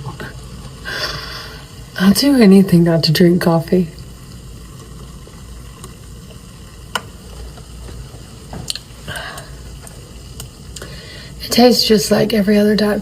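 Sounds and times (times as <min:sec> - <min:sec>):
soda fizzing over ice: 0:00.0 - 0:13.0.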